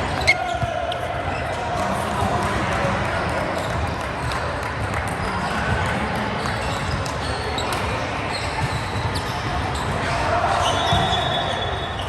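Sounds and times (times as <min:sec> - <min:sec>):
echoing hall noise: 0:00.0 - 0:12.0.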